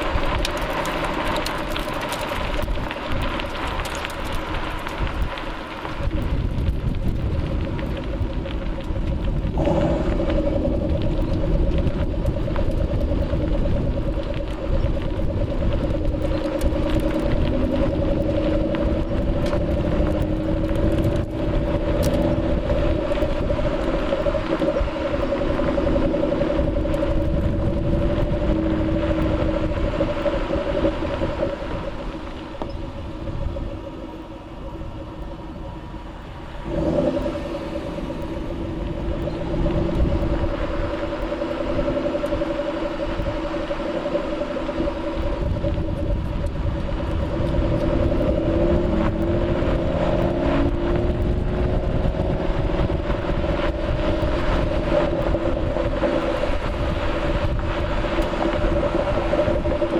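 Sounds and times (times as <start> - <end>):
low exhaust drone: 0.0 - 59.9
road rumble: 0.0 - 59.9.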